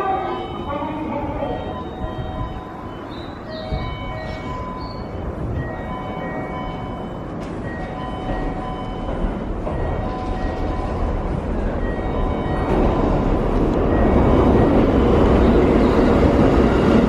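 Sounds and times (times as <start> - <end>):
train rumble approaching: 0.0 - 17.0.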